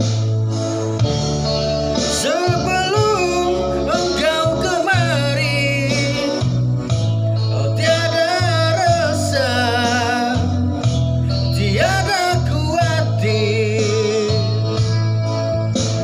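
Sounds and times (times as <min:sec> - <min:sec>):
sustained instrumental backing: 0:00.0 - 0:16.0
person singing with vibrato: 0:00.5 - 0:16.0.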